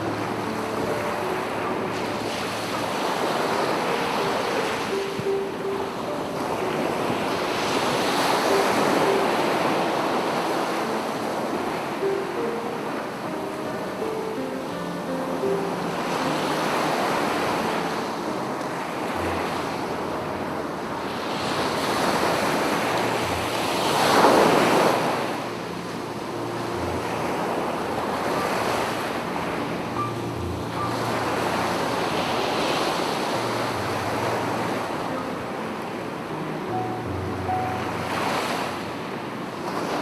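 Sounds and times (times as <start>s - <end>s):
sea waves breaking on beach: 0.0s - 40.0s.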